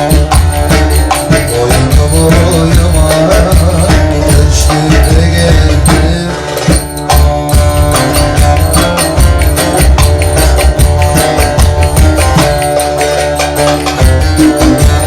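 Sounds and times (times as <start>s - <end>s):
folk dance music: 0.0s - 15.0s.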